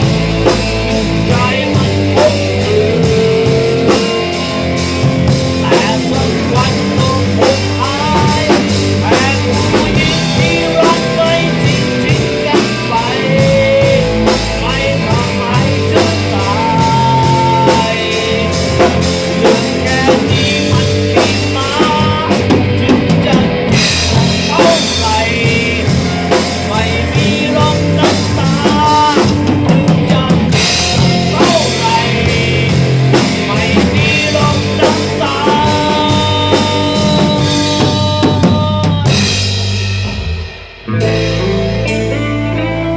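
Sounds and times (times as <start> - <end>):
man singing into a microphone: 0.0 - 39.5
rock band playing: 0.0 - 42.9.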